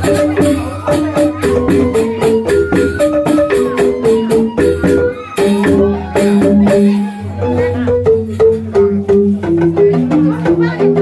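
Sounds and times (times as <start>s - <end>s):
bamboo xylophones playing: 0.0s - 11.0s.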